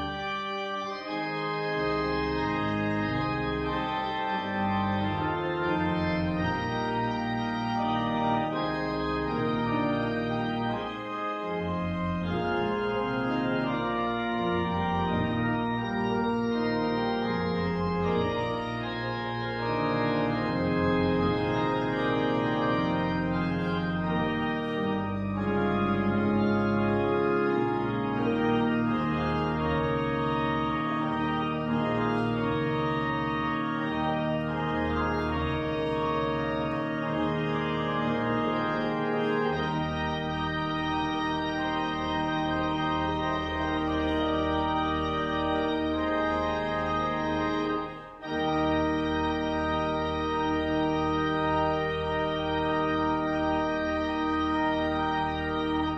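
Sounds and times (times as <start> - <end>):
church organ playing chords: 0.0 - 55.9.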